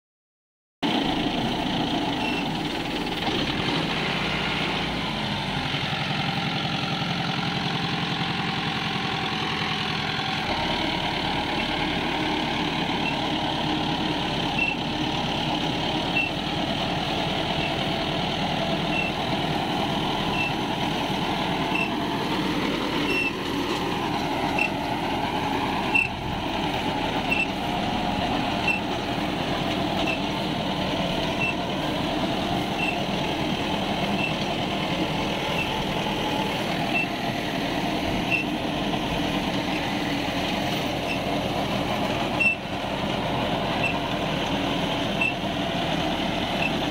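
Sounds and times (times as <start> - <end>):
tractor diesel engine running: 0.8 - 46.9
rotary tiller churning: 1.2 - 46.9.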